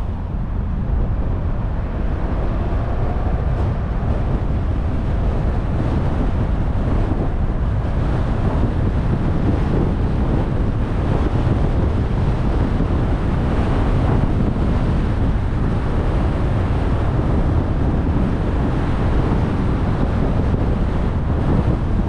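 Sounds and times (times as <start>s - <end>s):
car road noise: 0.0s - 22.0s
wind buffeting microphone: 0.0s - 22.0s.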